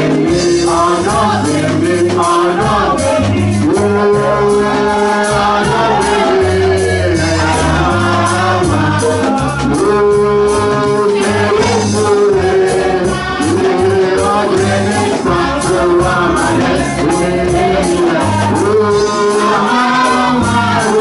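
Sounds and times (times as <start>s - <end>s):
drums with steady beat: 0.0s - 21.0s
keyboard: 0.0s - 21.0s
woman singing gospel: 0.0s - 21.0s.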